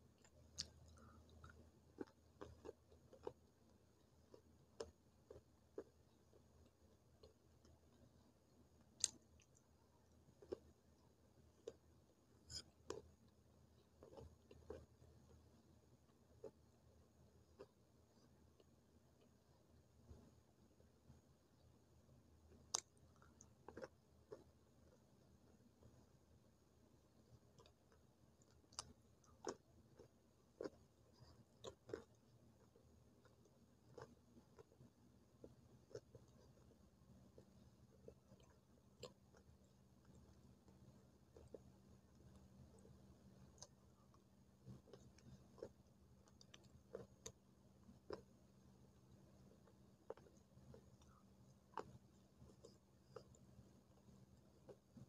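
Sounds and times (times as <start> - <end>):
chewing with crisp crunches: 0.0 - 21.0, 22.4 - 55.0.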